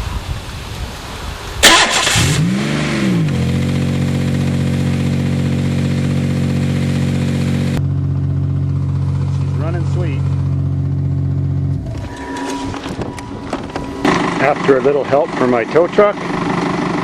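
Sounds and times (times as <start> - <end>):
car engine revving and idling: 1.6 - 17.0.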